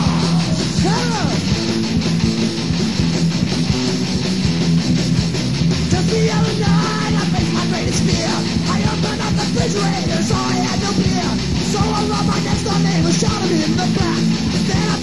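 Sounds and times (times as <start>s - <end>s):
bass guitar: 0.0s - 15.0s
drums playing: 0.0s - 15.0s
electric guitar: 0.0s - 15.0s.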